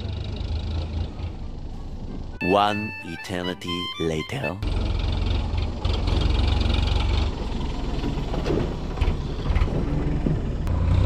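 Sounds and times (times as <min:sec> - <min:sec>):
tractor engine driving past: 0:00.0 - 0:02.8, 0:04.6 - 0:11.0.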